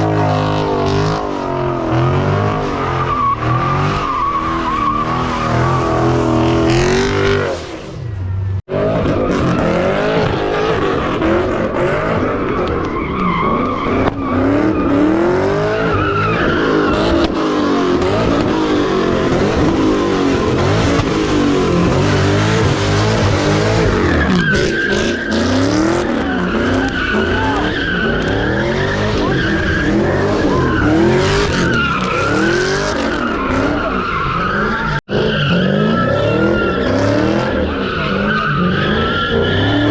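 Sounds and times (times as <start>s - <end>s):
car engines revving: 0.0s - 39.9s
tires squealing and skidding: 0.0s - 39.9s.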